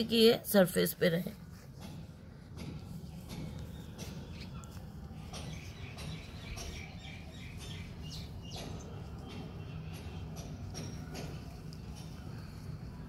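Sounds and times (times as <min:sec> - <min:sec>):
small birds chirping: 0:01.7 - 0:13.0.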